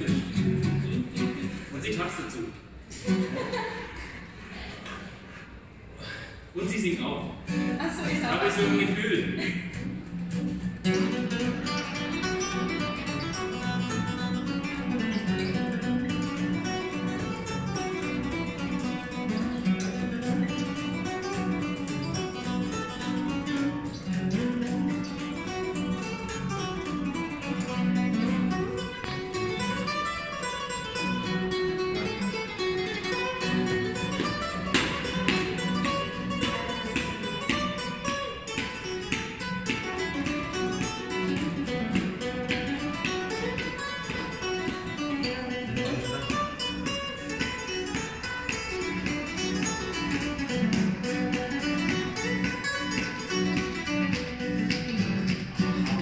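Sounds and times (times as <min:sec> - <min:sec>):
acoustic guitars playing duet: 0:00.0 - 0:56.0.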